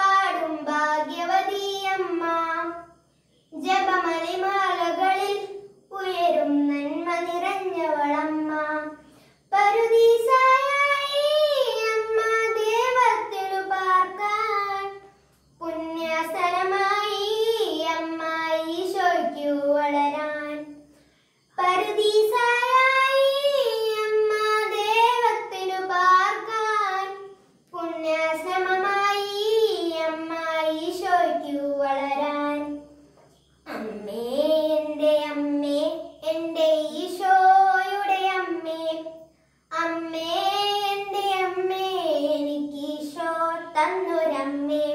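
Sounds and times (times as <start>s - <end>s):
boy singing a hymn: 0.0s - 44.9s.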